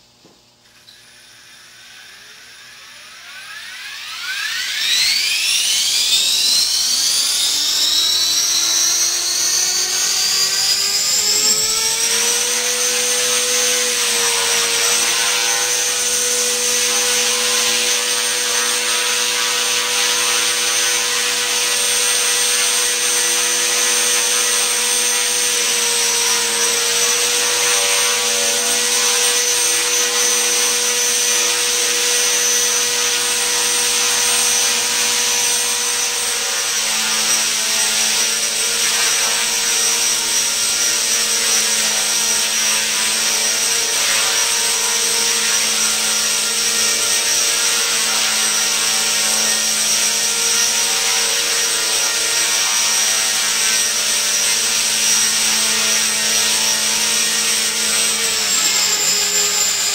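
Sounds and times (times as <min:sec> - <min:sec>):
rc helicopter motor whine: 0:00.0 - 0:59.9.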